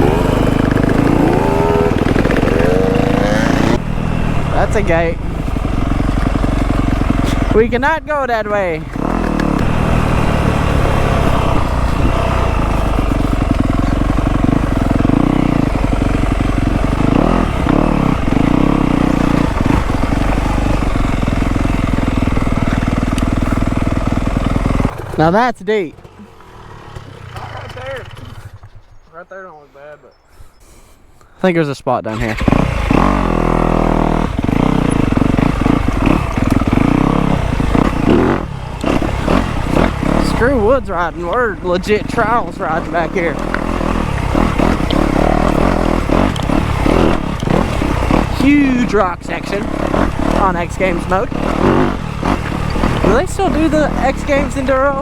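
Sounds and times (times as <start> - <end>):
dirt bike engine running: 0.0 - 29.1, 32.1 - 55.0.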